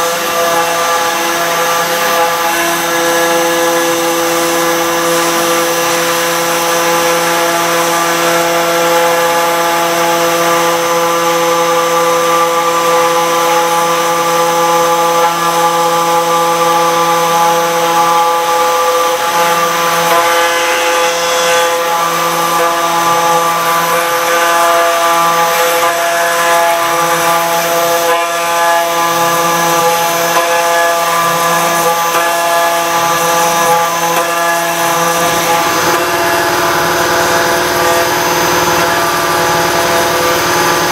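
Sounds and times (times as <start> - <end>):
hiss of cutting stone: 0.0 - 40.9
router spindle humming: 0.0 - 40.9.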